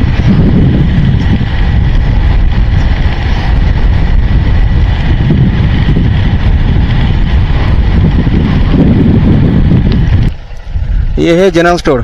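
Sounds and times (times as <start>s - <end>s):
motorbike engine: 0.0s - 11.5s
road noise: 0.0s - 12.0s
wind rush on microphone: 0.0s - 12.0s.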